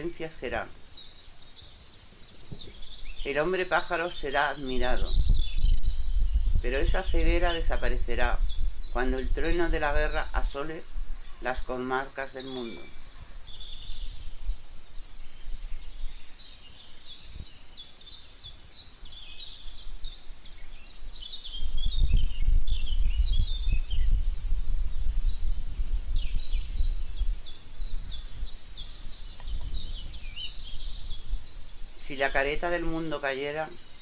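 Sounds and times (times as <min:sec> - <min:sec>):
birds chirping and trilling: 0:00.0 - 0:34.0.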